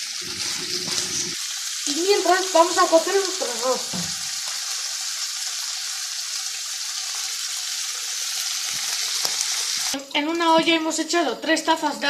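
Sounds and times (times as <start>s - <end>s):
food sizzling in frying pan: 0.0s - 10.8s.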